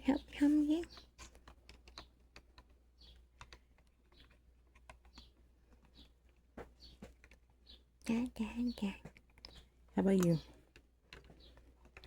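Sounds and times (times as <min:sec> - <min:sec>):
small objects clicking and tapping: 0:00.6 - 0:07.9, 0:08.9 - 0:12.0.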